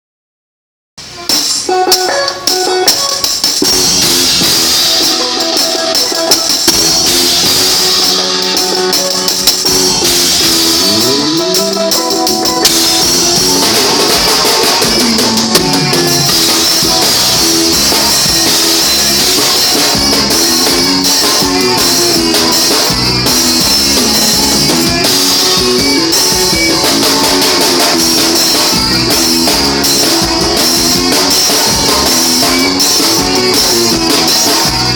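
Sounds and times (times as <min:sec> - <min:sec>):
drum kit: 0:01.0 - 0:34.9
guitar: 0:01.0 - 0:34.9
live band playing: 0:01.0 - 0:34.9.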